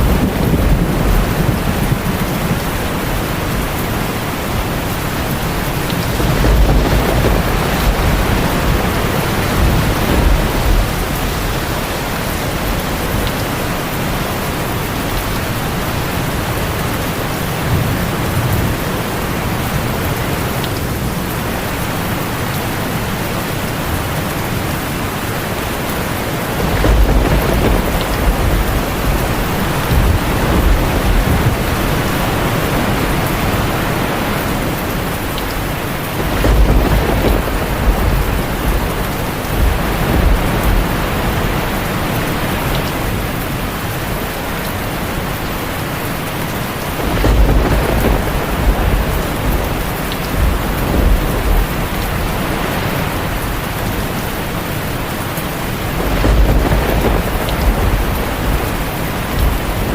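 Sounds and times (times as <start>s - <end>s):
heavy rain on a tin roof: 0.0s - 59.9s
thunder rumbling: 0.0s - 59.9s.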